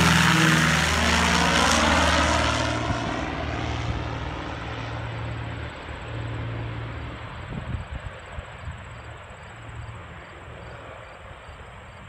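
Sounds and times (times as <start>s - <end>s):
propeller plane droning: 0.0s - 12.0s.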